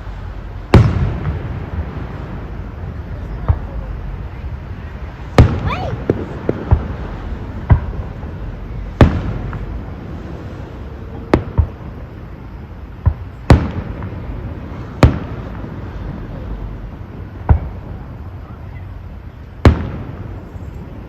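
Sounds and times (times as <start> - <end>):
fireworks bangs: 0.4 - 18.8, 19.6 - 21.0.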